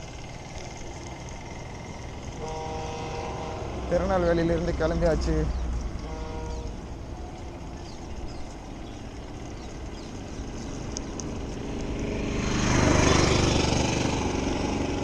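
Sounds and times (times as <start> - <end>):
bicycle road rumble: 0.0 - 15.0
vehicle engine passing: 0.0 - 15.0.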